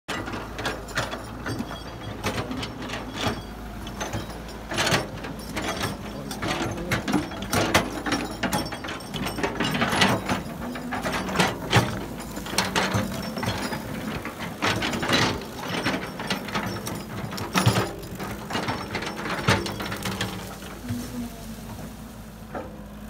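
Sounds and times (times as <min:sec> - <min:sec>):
excavator diesel engine: 0:00.1 - 0:23.0
metal clanks and knocks: 0:00.1 - 0:23.0.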